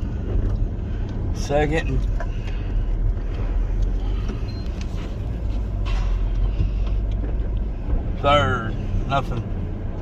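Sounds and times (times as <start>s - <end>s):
truck engine rumble from cab: 0.0s - 10.0s.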